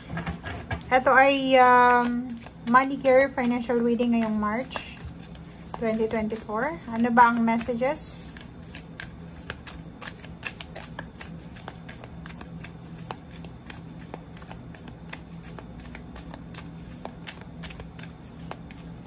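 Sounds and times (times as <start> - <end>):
cards being shuffled by hand: 0.0 - 19.0.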